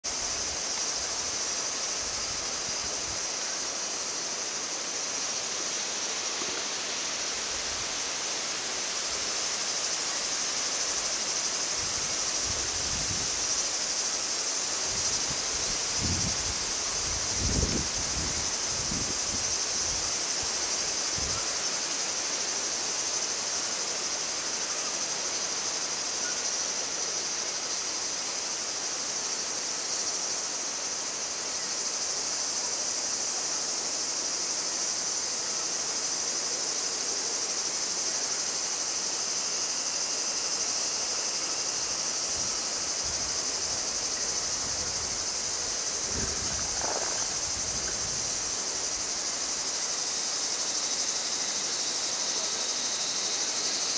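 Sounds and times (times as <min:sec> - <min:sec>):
insect chorus buzzing: 0:00.0 - 0:53.9.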